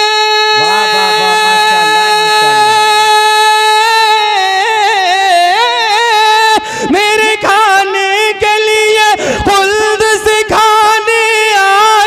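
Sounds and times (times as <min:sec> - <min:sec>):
man singing solo: 0:00.0 - 0:12.0.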